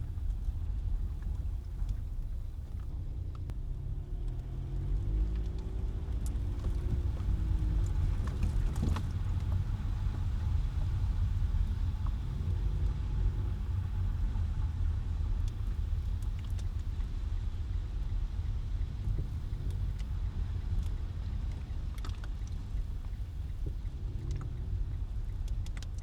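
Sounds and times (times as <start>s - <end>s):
car engine accelerating: 0.0s - 26.0s
car road rumble: 0.0s - 26.0s.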